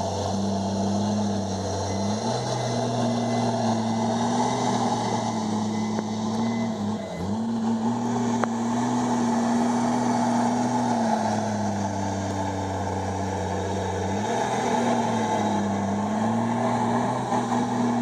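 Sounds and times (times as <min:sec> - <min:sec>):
bulldozer diesel engine under load: 0:00.0 - 0:18.0.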